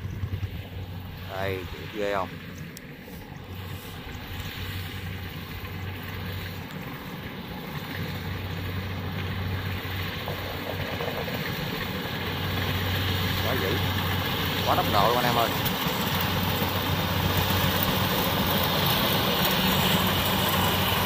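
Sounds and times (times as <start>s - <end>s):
combine harvester engine hum: 0.0s - 21.0s
header and threshing clatter: 0.1s - 21.0s.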